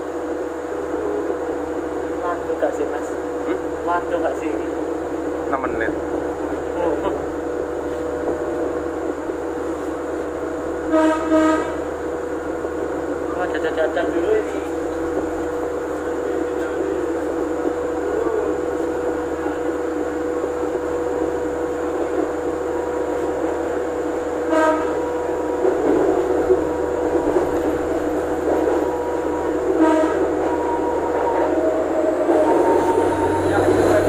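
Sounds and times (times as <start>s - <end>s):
train engine and wheels rumbling: 0.0s - 34.0s.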